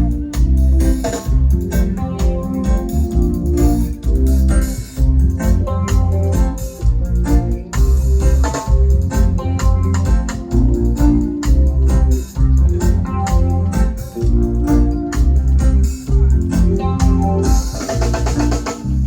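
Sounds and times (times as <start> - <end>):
drums: 0.0 - 19.0
heavy bass line: 0.0 - 19.0
organ keyboard chords: 0.0 - 19.0.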